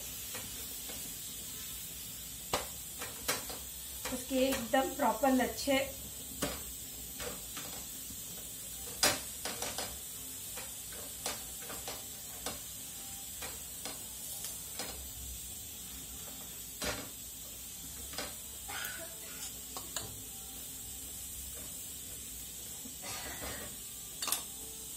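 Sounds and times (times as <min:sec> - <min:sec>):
bread sizzling in a pan: 0:00.0 - 0:24.9.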